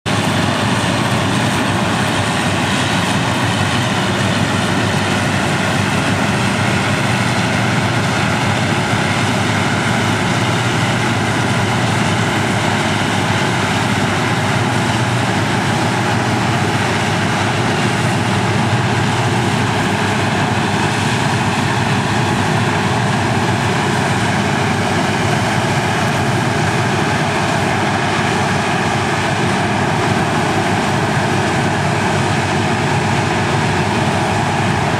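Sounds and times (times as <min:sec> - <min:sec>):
forage harvester running loud: 0:00.1 - 0:34.9.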